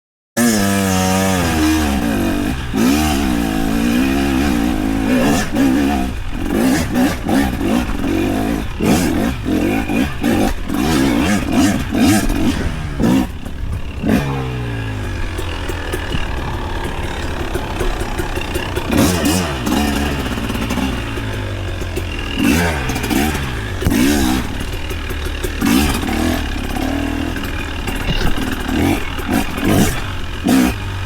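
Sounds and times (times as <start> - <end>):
small vehicle engine revving: 0.4 - 31.0.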